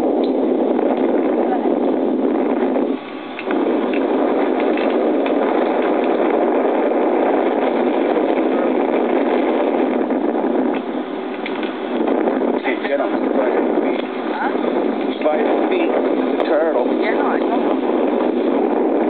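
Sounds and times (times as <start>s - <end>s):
wind rushing on microphone: 0.0s - 19.0s.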